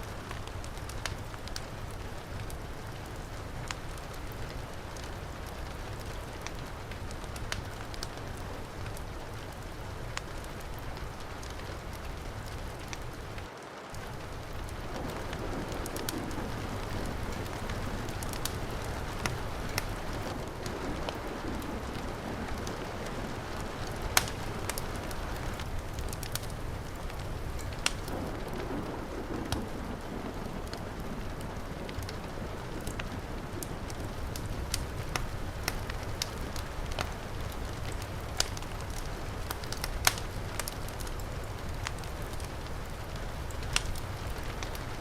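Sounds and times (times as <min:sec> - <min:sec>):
heavy rain falling: 0:00.0 - 0:45.0
wood fire crackling and popping: 0:00.0 - 0:45.0.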